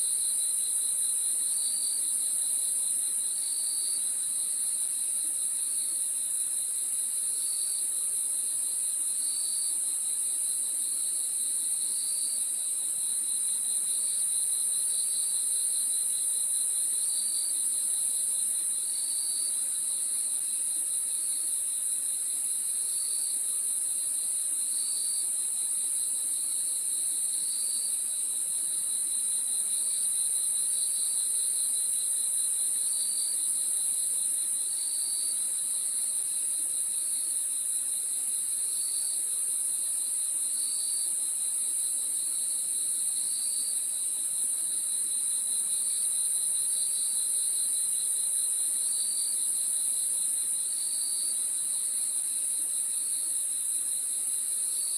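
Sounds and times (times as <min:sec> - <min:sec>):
cricket pulsing chirp: 0:00.1 - 0:54.9
crickets trilling: 0:00.1 - 0:54.9.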